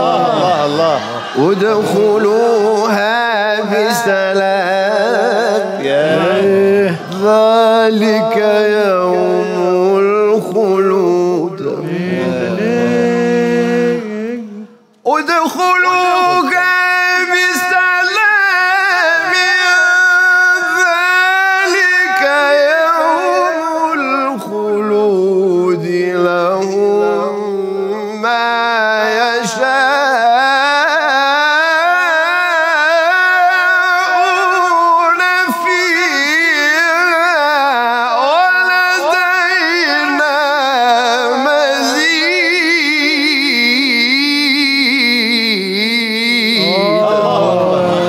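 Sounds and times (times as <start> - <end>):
man reciting melodically: 0.0 - 48.0.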